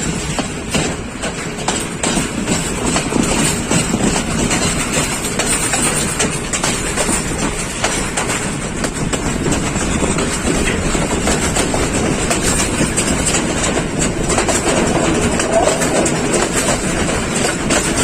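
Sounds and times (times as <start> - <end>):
train rumbling on track: 0.0 - 18.0
wheel clicks and knocks: 0.3 - 18.0.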